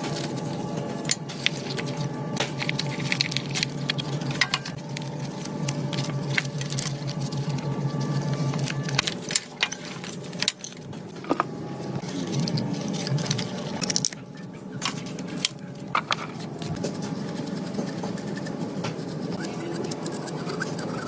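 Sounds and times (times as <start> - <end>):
lower hum: 0.0 - 21.0.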